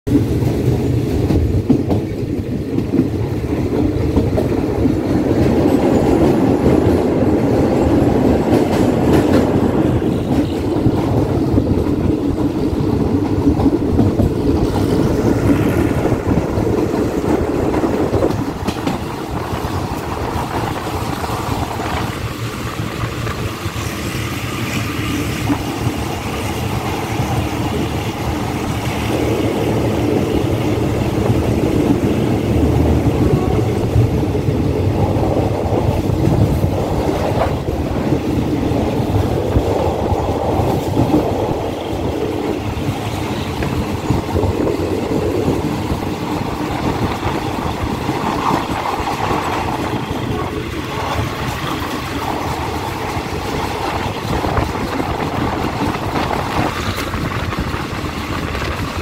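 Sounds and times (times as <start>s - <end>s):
train rumble and wheel clatter: 0.0s - 59.0s.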